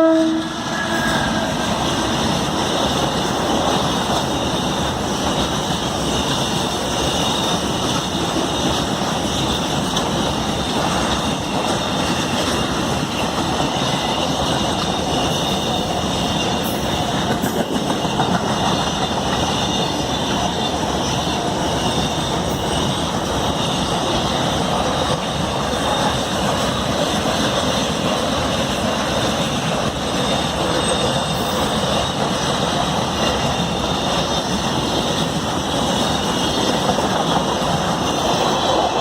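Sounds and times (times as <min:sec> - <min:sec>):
goods train rolling over rails: 0:00.0 - 0:39.0.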